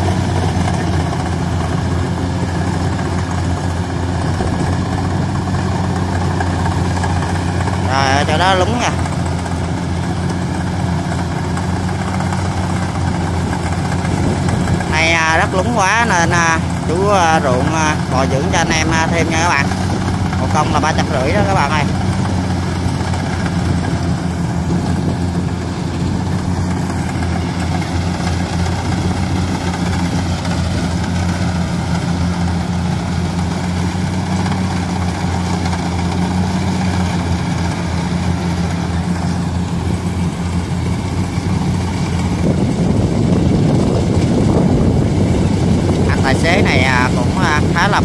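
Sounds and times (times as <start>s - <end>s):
combine harvester engine running: 0.0s - 48.0s
threshing machinery: 0.0s - 48.0s.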